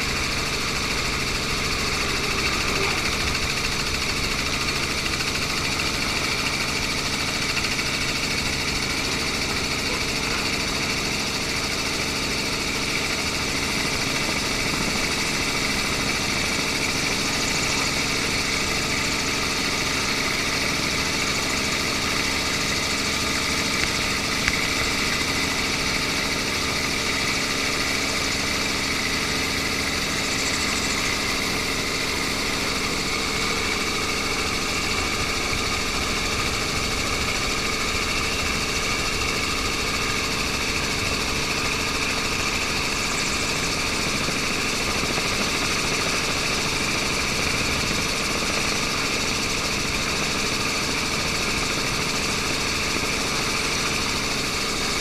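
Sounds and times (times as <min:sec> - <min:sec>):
motor hum with high whine: 0:00.0 - 0:55.0.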